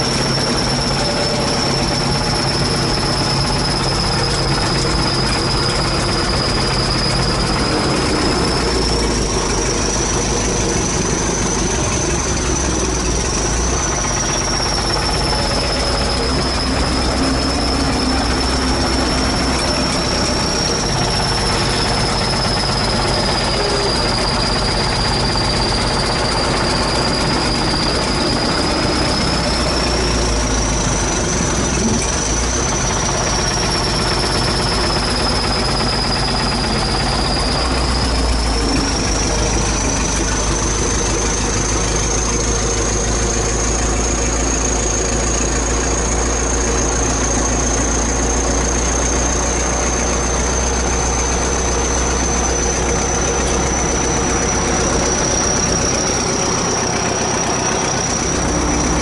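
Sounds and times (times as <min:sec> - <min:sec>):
bulldozer diesel engine rumbling: 0:00.0 - 0:59.0
high-pitched whine: 0:00.0 - 0:59.0.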